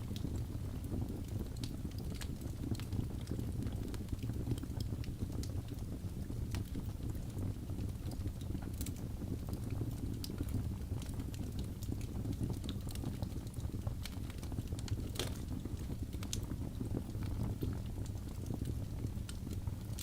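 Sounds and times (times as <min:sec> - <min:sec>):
fire crackling and popping: 0:00.0 - 0:20.0
logs burning in a fireplace: 0:00.0 - 0:20.0.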